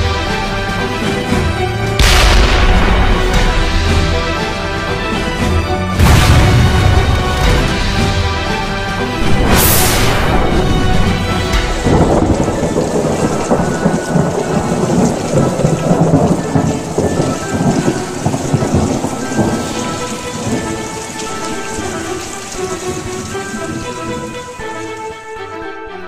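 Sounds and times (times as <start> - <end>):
rumbling thunder: 0.0 - 24.8
heavy rain: 0.0 - 26.0
sustained music notes: 0.0 - 26.0.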